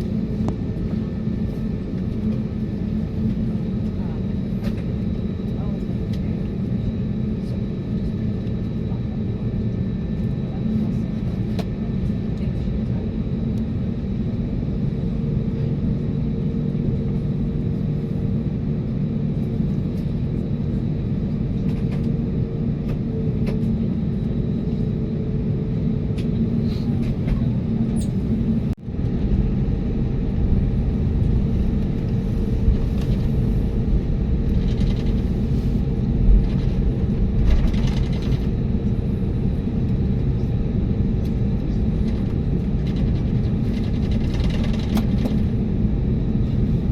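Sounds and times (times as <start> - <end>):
aircraft cabin rumble: 0.0 - 46.9.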